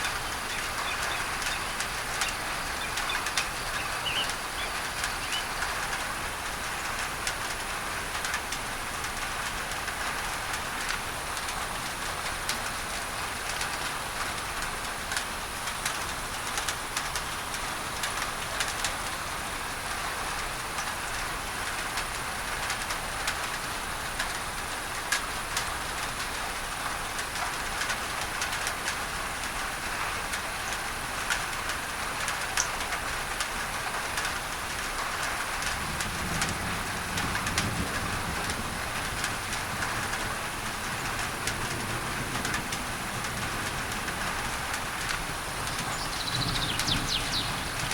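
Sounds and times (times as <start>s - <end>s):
rain drumming on a tin roof: 0.0s - 47.9s.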